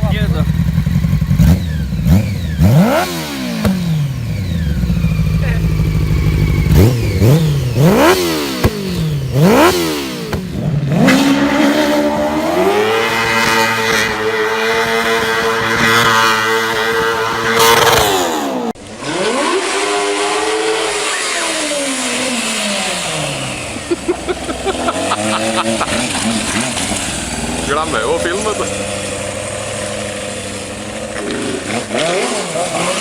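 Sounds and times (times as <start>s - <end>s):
motorcycle engine running: 0.0s - 19.5s, 20.4s - 33.0s
go-kart engine revving: 0.0s - 33.0s.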